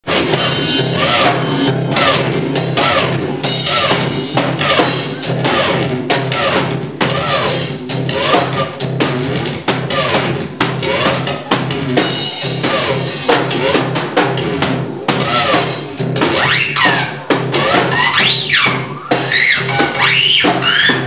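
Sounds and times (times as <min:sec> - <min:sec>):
drum kit beat: 0:00.0 - 0:21.0.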